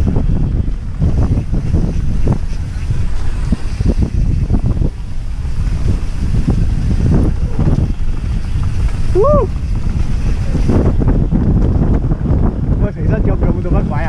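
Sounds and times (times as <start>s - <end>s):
bike rattling over bumps: 0.0s - 14.0s
wind buffeting microphone: 0.0s - 14.0s.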